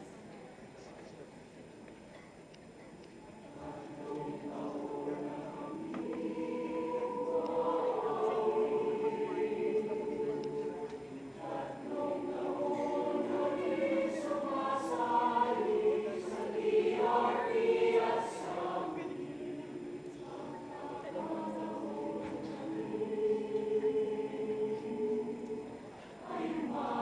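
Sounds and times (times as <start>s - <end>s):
mixed choir singing in harmony: 3.5s - 27.0s.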